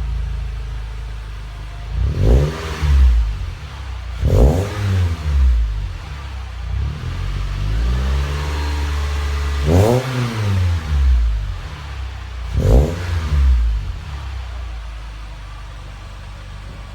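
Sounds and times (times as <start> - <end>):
car engine revving and idling: 0.0 - 16.9.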